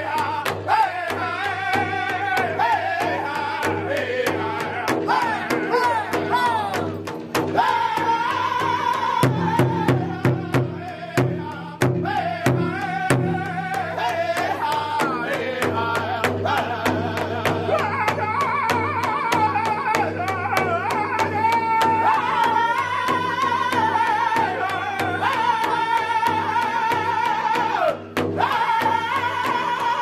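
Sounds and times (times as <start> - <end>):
group singing high wavering song: 0.0 - 30.0
large drum steady beat: 0.0 - 30.0.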